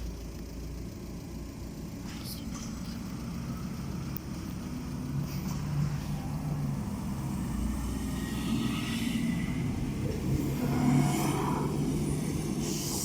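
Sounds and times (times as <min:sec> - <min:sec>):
train rumble and hum: 0:01.4 - 0:13.0.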